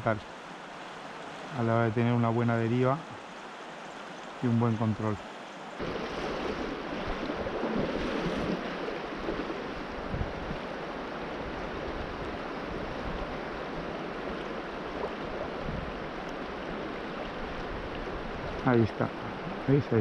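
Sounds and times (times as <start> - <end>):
river water rushing over stones: 0.0 - 20.0.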